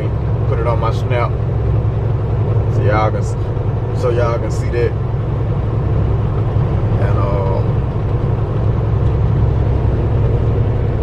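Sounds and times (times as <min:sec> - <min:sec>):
truck engine drone and road noise: 0:00.0 - 0:11.0.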